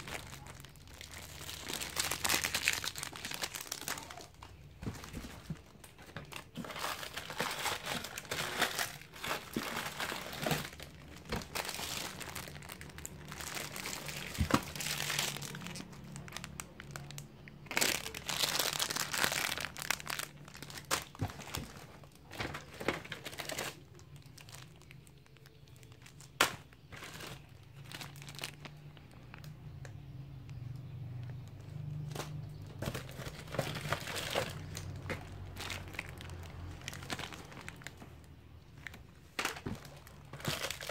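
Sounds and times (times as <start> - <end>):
plastic bags crinkling: 0.0 - 30.0, 30.7 - 40.9.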